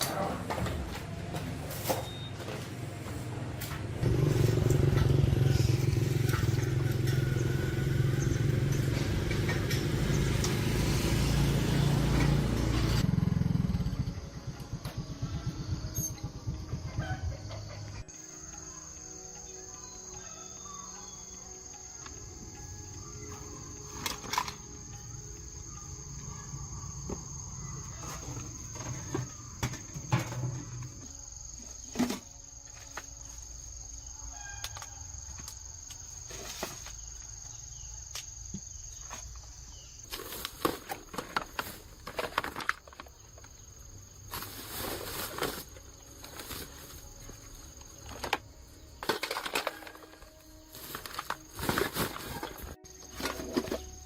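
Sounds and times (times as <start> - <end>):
high insect drone: 4.1 - 54.0.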